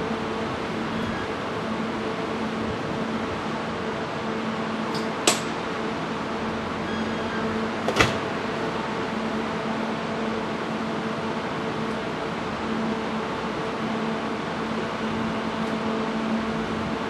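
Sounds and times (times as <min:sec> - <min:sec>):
train electrical hum: 0:00.0 - 0:17.0.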